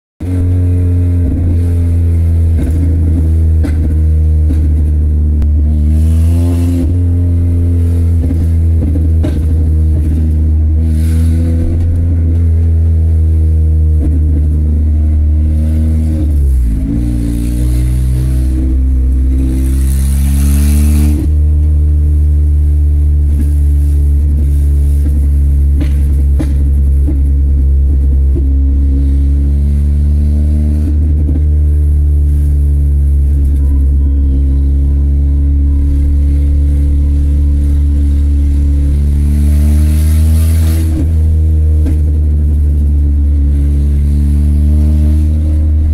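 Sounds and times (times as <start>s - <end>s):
loud car engine droning: 0.2s - 45.9s.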